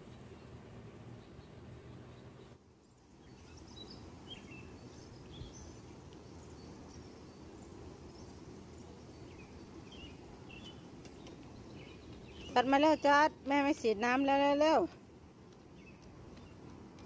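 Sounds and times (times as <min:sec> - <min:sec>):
low outdoor background rumble: 0:00.0 - 0:17.0
small birds chirping faintly: 0:00.0 - 0:17.0.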